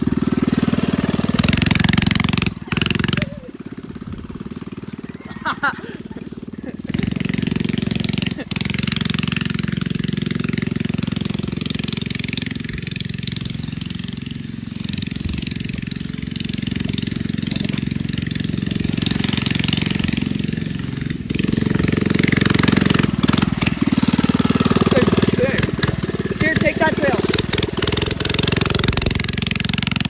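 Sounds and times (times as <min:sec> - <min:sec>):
mini bike engine running: 0:00.0 - 0:30.0.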